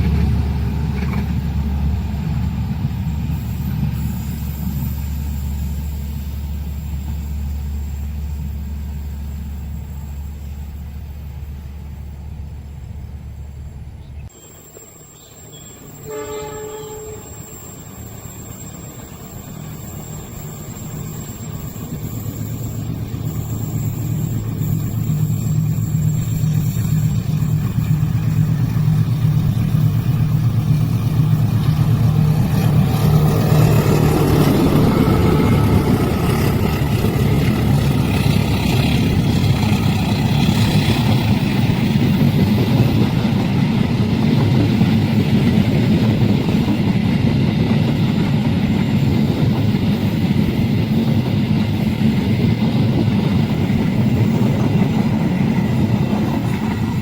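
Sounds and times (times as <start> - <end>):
diesel locomotive engine drone: 0.0 - 57.0
train wheels rattling on rails: 0.0 - 57.0.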